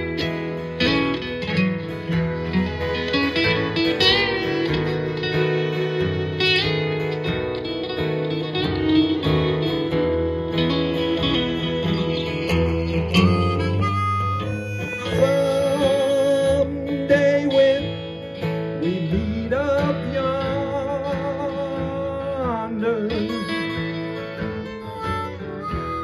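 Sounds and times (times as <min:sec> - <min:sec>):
acoustic guitars strumming: 0:00.0 - 0:26.0
fiddle melody: 0:00.0 - 0:26.0
harmonica melody: 0:00.0 - 0:26.0.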